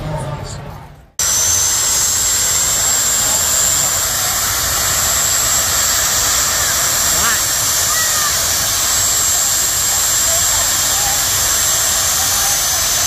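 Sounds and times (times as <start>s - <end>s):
high turbine whine: 1.2s - 13.0s
turbine engine roaring: 1.2s - 13.0s.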